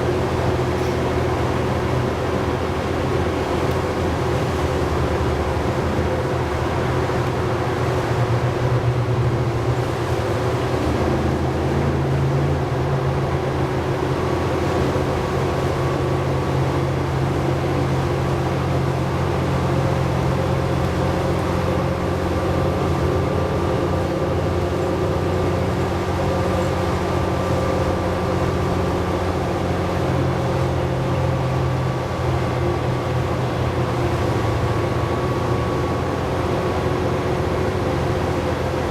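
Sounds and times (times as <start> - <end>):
bus engine running: 0.0 - 38.9.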